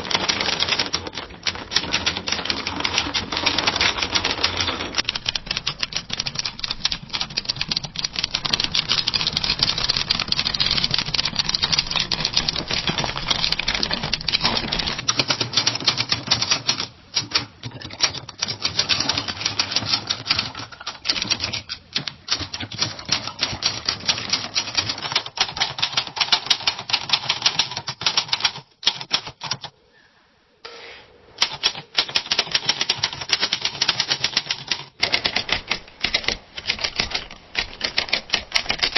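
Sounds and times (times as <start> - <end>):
typewriter keys typing fast: 0.0 - 29.7, 31.4 - 38.9.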